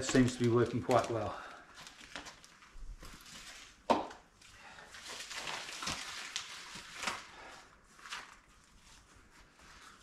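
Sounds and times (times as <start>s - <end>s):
rubber gloves rustling and crinkling: 0.0s - 10.0s.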